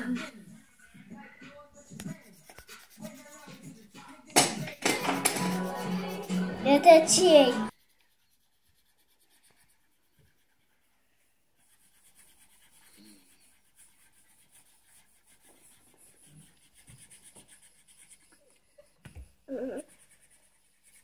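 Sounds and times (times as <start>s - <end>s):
marker and pencil scratching paper: 0.0s - 21.0s.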